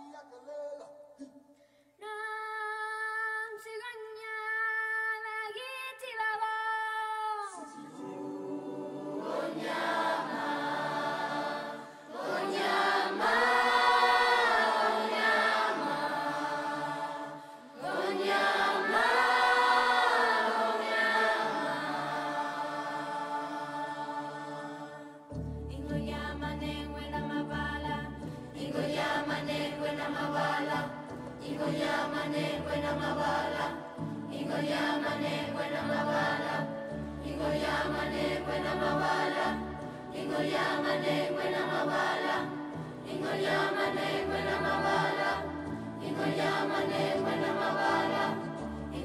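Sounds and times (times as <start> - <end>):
choir singing a cappella: 7.5 - 49.0.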